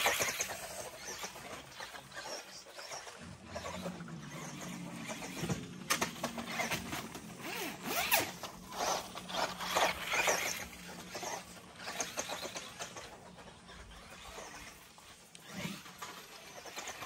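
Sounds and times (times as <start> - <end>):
electric motor whining: 0.0 - 17.0
wheels rustling on dirt: 0.0 - 17.0.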